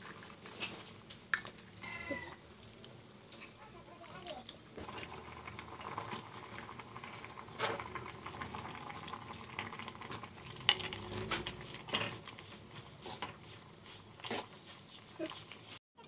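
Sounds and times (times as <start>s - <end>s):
water boiling with small pops: 0.0s - 14.6s.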